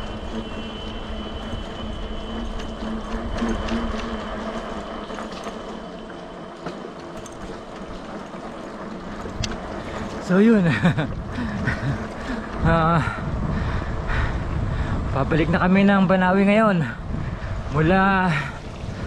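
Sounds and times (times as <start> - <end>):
bicycle road and wind noise: 0.0 - 19.0
low hum: 0.0 - 19.0.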